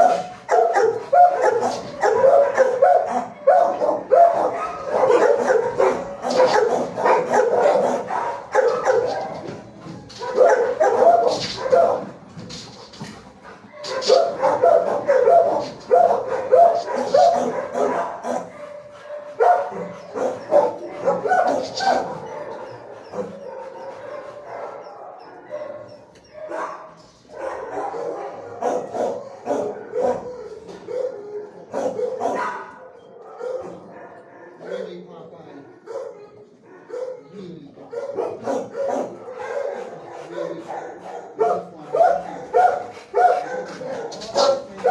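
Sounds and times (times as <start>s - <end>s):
dogs barking: 0.0s - 35.0s, 35.6s - 44.9s.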